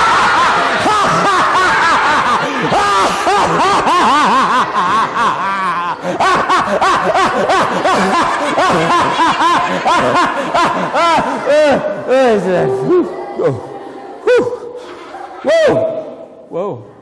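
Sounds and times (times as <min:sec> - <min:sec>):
children and man cackling: 0:00.0 - 0:14.8.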